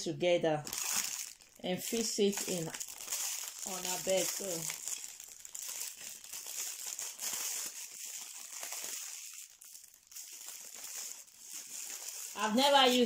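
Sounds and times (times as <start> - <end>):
plastic packaging crinkling: 0.5 - 13.0.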